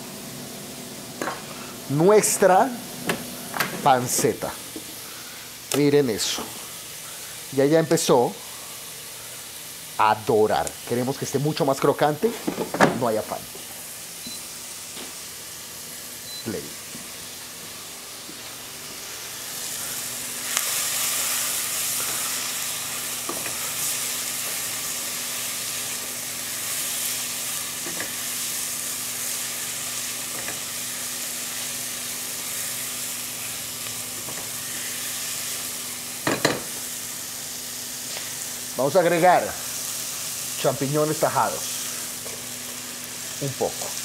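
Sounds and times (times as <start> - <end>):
pork sizzling in a pot: 0.0 - 44.0.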